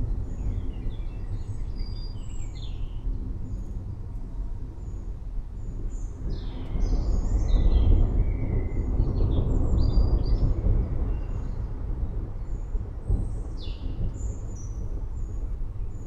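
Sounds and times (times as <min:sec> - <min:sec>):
distant thunder rumbling: 0:02.7 - 0:16.0.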